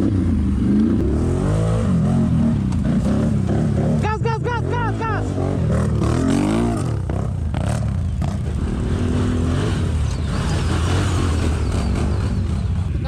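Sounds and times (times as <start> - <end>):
atv engine running hard: 0.0 - 13.0.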